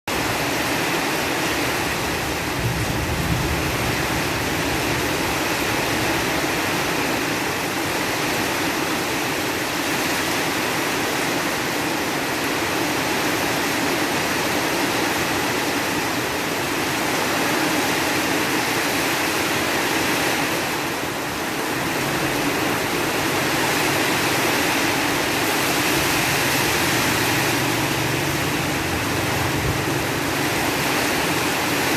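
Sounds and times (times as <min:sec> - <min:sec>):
rain: 0:00.1 - 0:31.9
wind: 0:00.1 - 0:31.9.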